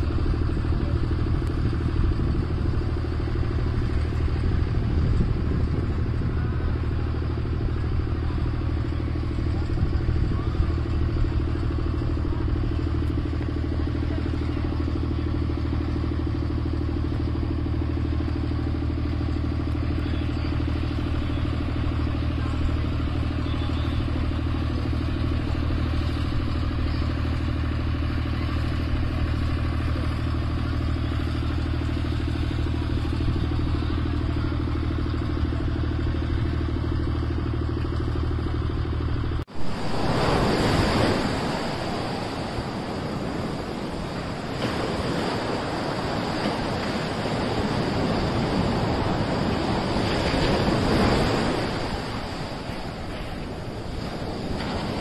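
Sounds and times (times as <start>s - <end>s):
low engine-like drone: 0.0s - 55.0s.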